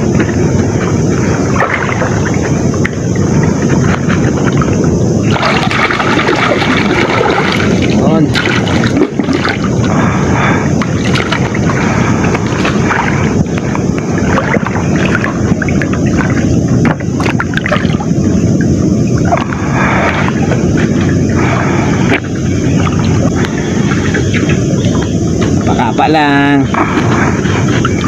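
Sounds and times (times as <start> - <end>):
floodwater rushing and sloshing: 0.0 - 28.0.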